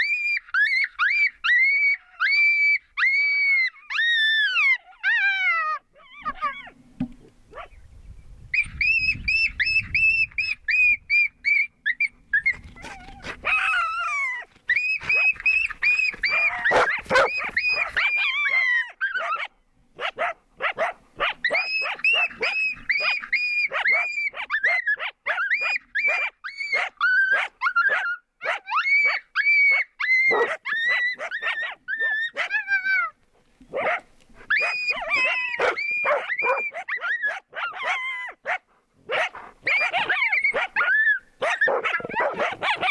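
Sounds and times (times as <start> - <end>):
coyotes yipping and howling: 0.0 - 6.8, 8.5 - 42.9.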